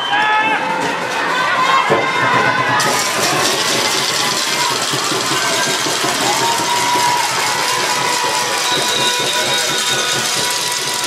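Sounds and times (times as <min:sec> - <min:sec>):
spectators shouting and cheering: 0:00.0 - 0:11.0.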